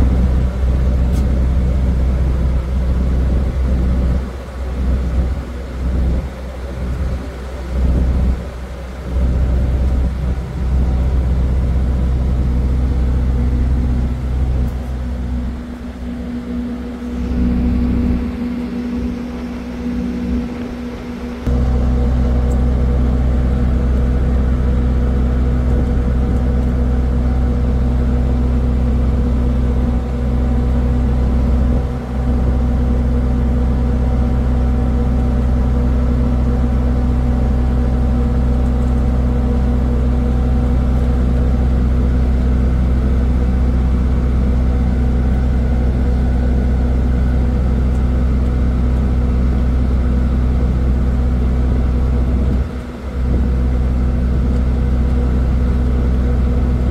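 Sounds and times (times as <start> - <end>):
ship engine humming: 0.0 - 56.9.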